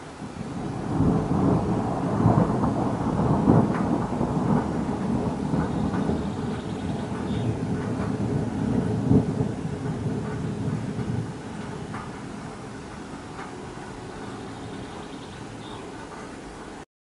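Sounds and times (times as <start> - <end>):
rolling thunder: 0.0 - 16.8.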